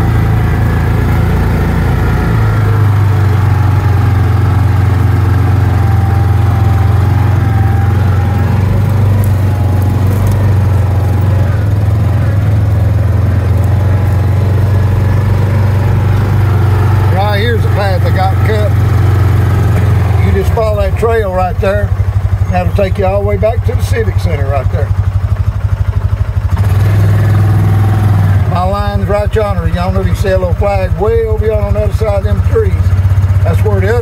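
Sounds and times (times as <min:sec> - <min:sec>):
utility vehicle engine droning: 0:00.0 - 0:34.0.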